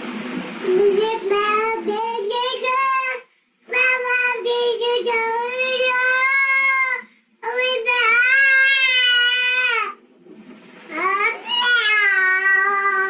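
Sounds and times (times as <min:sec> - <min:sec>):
child singing: 0:00.6 - 0:10.0, 0:10.9 - 0:13.0.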